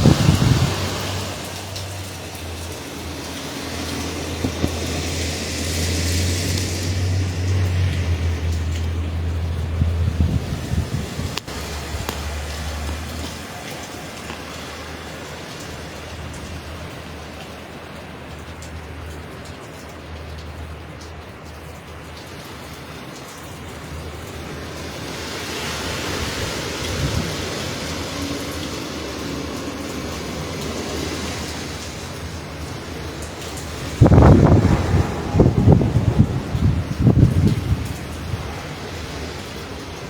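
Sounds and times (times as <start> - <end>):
heavy rain: 0.0 - 40.0
hurricane wind: 0.0 - 40.0.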